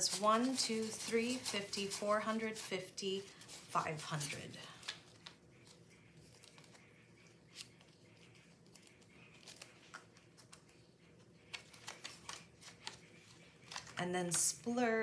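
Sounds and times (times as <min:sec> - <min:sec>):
paper banknotes rustling: 0:00.0 - 0:14.0.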